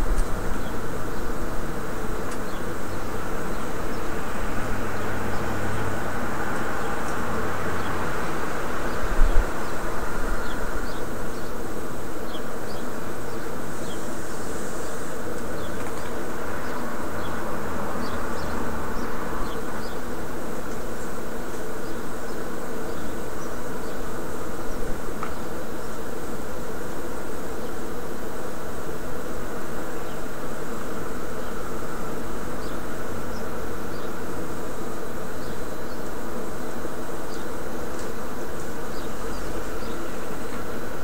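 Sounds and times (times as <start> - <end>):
steady buzzing drone: 0.0 - 41.0.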